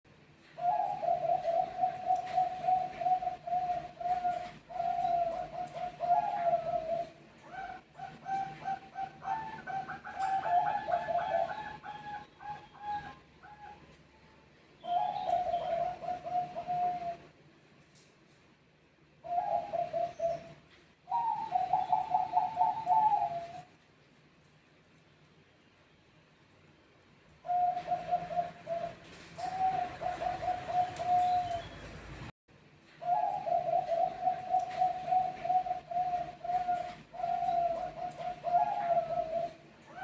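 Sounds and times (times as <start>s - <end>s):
doves cooing: 0.4s - 14.0s, 14.8s - 17.4s, 19.2s - 23.8s, 27.4s - 32.2s, 32.9s - 40.0s.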